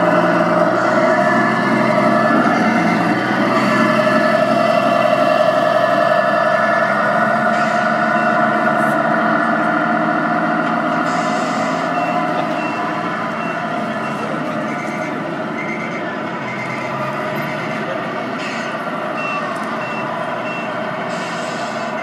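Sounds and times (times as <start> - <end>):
simulated truck engine through speakers: 0.0 - 22.0.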